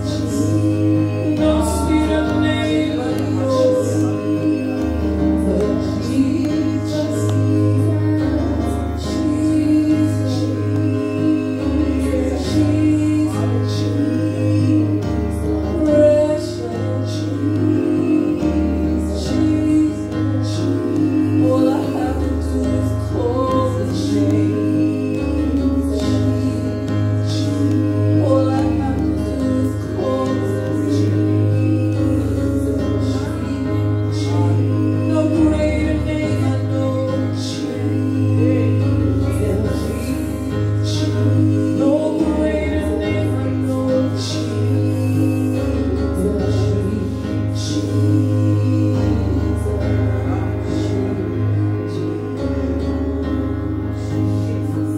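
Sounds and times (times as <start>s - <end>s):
bass line: 0.0s - 54.9s
women singing gospel song: 0.0s - 54.9s.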